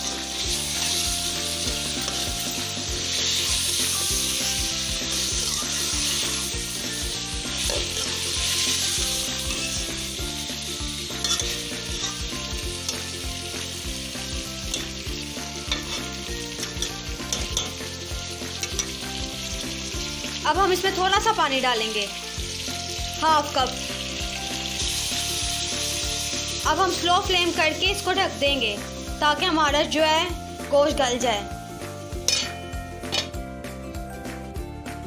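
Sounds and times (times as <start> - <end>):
food sizzling in hot oil: 0.0 - 34.5.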